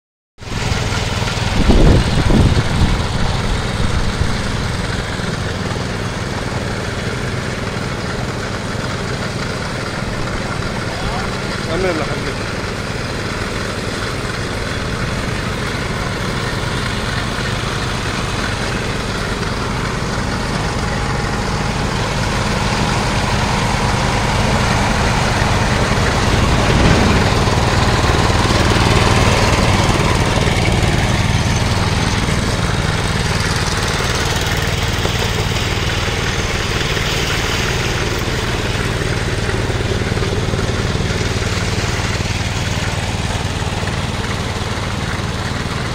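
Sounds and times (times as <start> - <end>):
power trowel engine running: 0.4 - 45.9.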